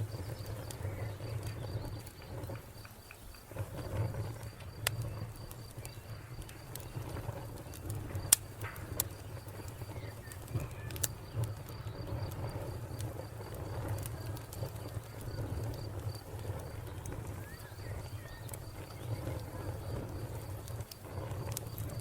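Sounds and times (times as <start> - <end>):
cricket chirping: 0.0 - 22.0
wood fire crackling and popping: 0.0 - 22.0.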